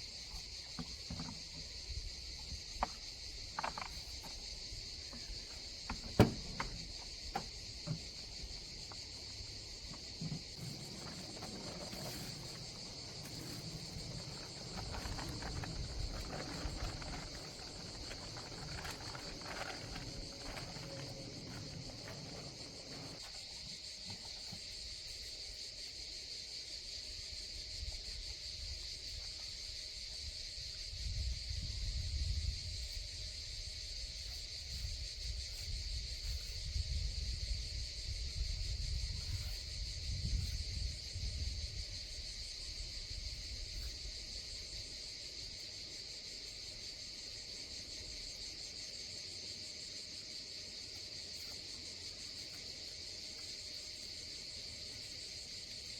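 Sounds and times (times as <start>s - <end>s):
crickets or cicadas chorus: 0.0s - 55.9s.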